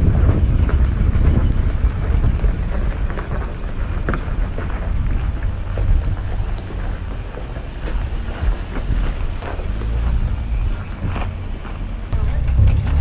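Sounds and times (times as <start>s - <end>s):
off-road vehicle rumbling: 0.0s - 13.0s
wind buffeting microphone: 0.0s - 13.0s.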